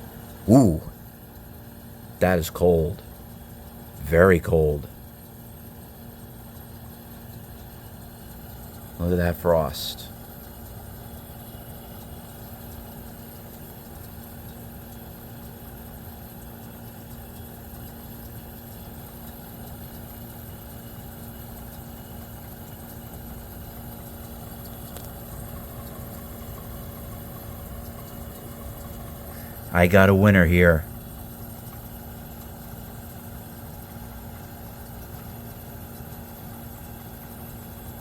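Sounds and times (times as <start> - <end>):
dehumidifier humming: 0.0 - 38.0.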